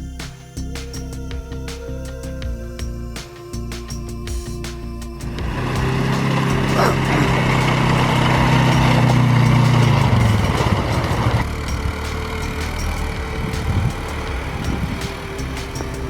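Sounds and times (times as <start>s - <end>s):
vehicle engine running: 1.0s - 16.0s
ground noise: 2.5s - 16.0s.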